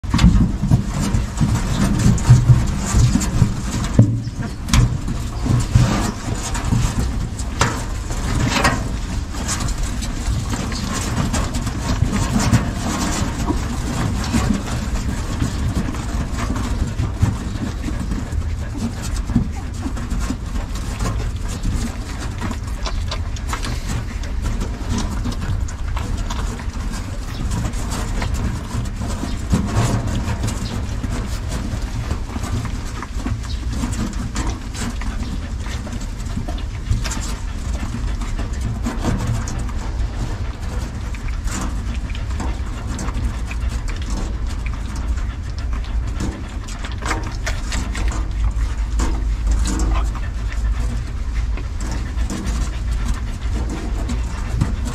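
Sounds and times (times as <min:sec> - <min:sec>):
puppies suckling and smacking: 0:00.0 - 0:54.9
steady low rumble: 0:00.0 - 0:54.9.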